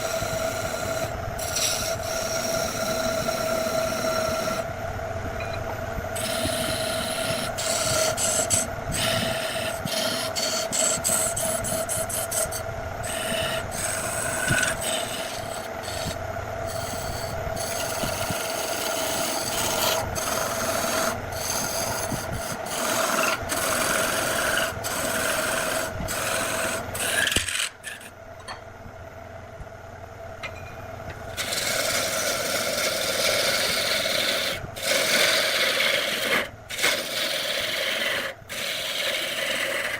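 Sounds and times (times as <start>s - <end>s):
tool scraping spinning wood: 0.0s - 4.7s, 6.1s - 28.6s, 30.5s - 39.9s
wood lathe motor hum: 0.0s - 4.8s, 6.1s - 28.2s, 31.1s - 39.9s.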